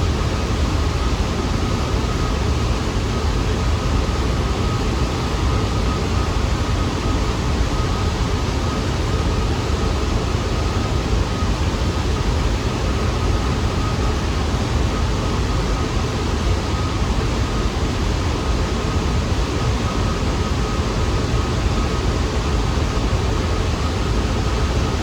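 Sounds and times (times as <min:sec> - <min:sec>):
faint constant whine: 0:00.0 - 0:25.0
subway train rumble and hiss: 0:00.0 - 0:25.0.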